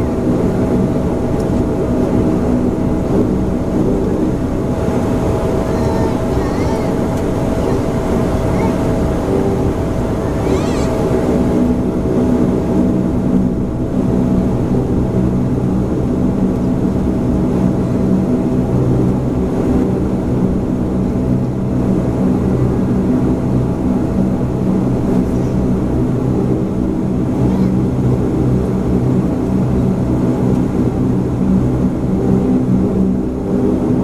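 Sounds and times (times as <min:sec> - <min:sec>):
turboprop engines droning in cabin: 0:00.0 - 0:34.0.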